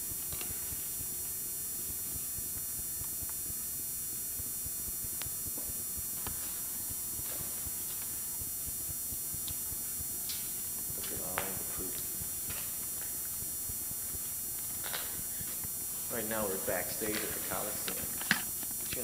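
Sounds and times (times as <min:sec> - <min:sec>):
camcorder hiss and hum: 0:00.0 - 0:19.0.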